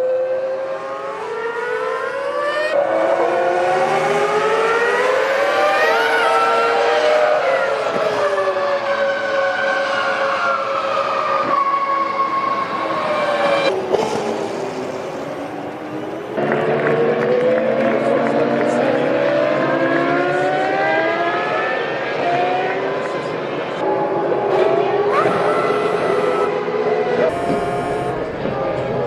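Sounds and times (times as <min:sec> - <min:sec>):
racing car engines screaming: 0:00.0 - 0:29.0.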